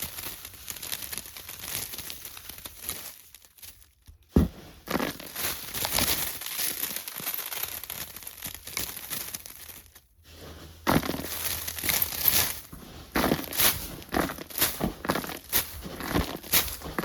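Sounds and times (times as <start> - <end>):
crinkling and crackling: 0.0 - 17.0.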